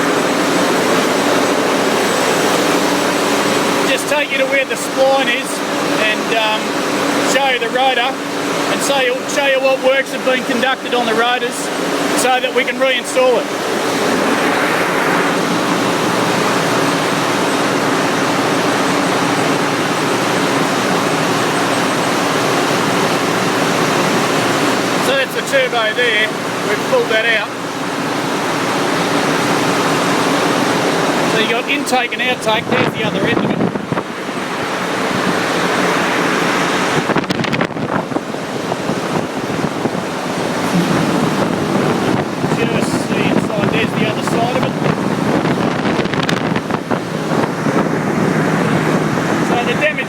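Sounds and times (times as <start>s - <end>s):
engine room machinery noise: 0.0s - 50.0s
loud steady rushing noise: 0.0s - 50.0s.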